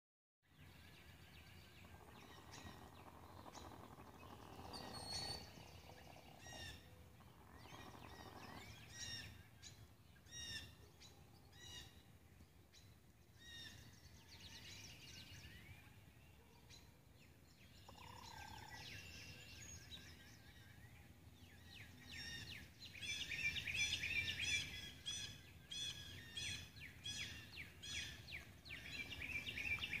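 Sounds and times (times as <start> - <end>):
small birds chirping and trilling: 0.5 - 30.0.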